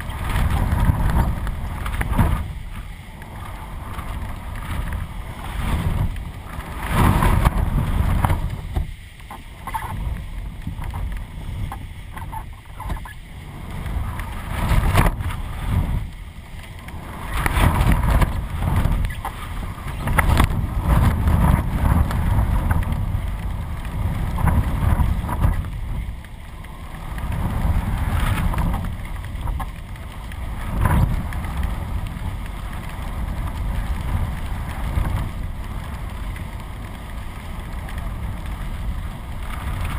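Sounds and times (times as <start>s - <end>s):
gusty wind buffeting microphone: 0.0s - 39.9s.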